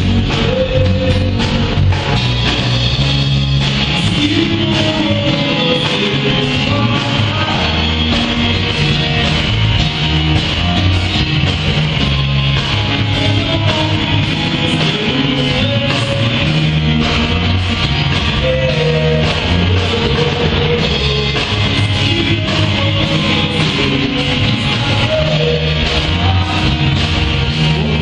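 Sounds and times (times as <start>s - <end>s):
drum kit: 0.0s - 28.0s
electric bass line: 0.0s - 28.0s.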